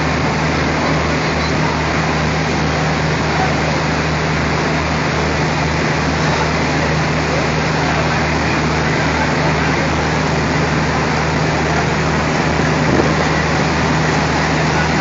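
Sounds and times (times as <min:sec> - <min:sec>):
diesel locomotive engine humming: 0:00.0 - 0:15.0.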